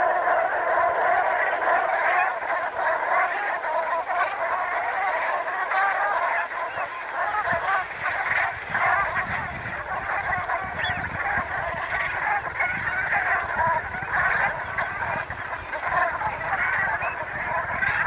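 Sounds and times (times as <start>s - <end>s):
geese calling: 0.0s - 18.0s.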